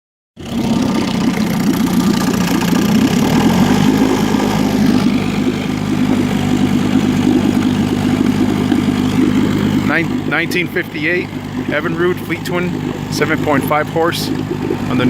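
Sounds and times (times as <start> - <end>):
outboard motor running: 0.4 - 15.0.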